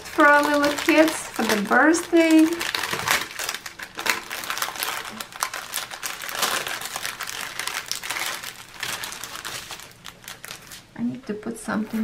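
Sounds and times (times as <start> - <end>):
plastic packets crinkling: 0.0 - 10.9.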